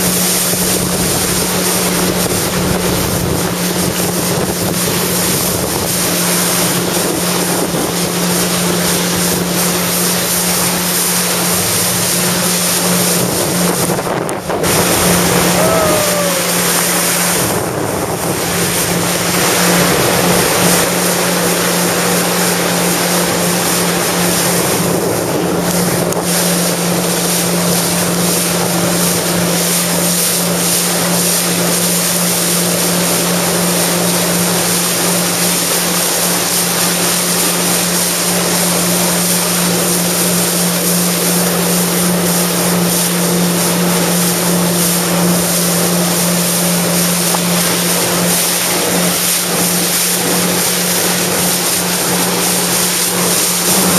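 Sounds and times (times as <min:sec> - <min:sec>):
wind buffeting microphone: 0:00.0 - 0:43.7, 0:44.3 - 0:53.9
jet ski engine droning: 0:00.0 - 0:53.9
rushing water spray: 0:00.0 - 0:53.9.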